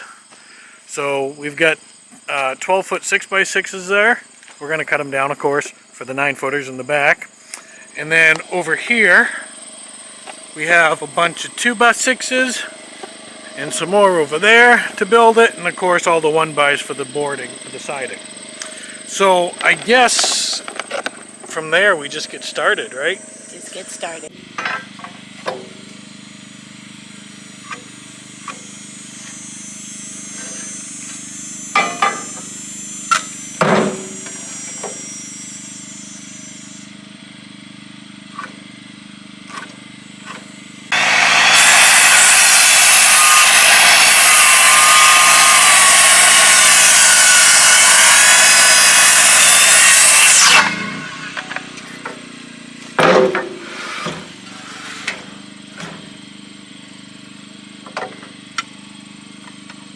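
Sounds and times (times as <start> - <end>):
power saw cutting timber: 0.0 - 59.9.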